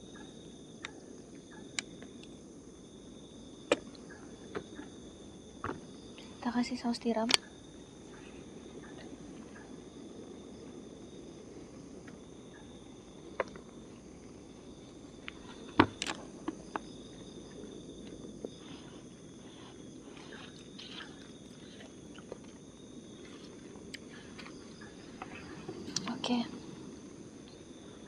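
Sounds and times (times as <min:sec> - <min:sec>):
night insects trilling: 0:00.0 - 0:28.0.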